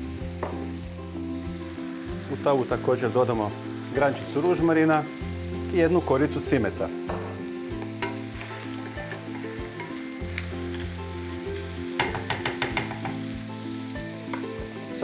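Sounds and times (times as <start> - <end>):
meat and onion sizzling in pan: 0.0 - 15.0.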